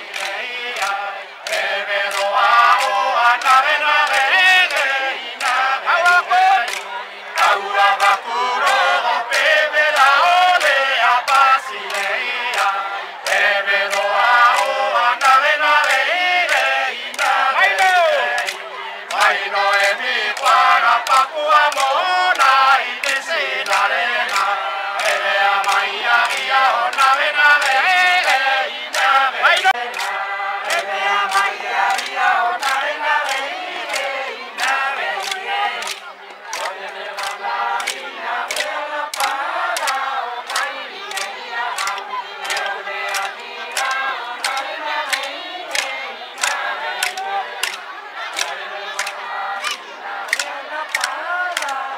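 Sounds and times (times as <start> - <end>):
group chanting in unison: 0.0 - 51.9.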